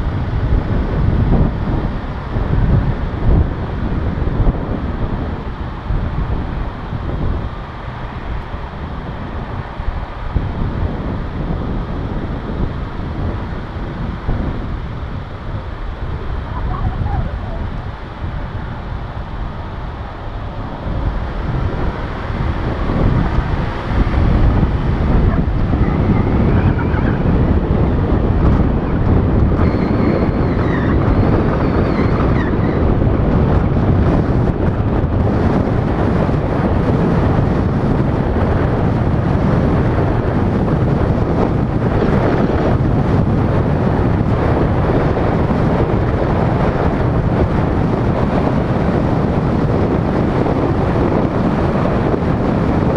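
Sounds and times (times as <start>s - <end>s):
road noise: 0.0s - 52.9s
wind buffeting microphone: 0.0s - 52.9s.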